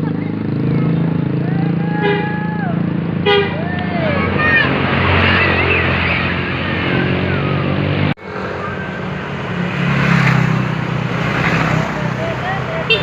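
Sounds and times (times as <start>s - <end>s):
diesel bus engine droning: 0.0s - 13.0s
road noise: 0.0s - 13.0s.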